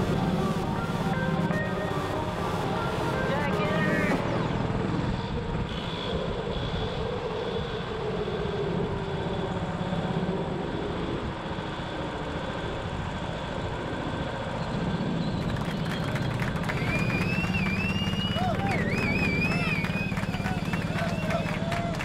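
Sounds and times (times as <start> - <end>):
go-kart motor and tyres: 0.0 - 22.0.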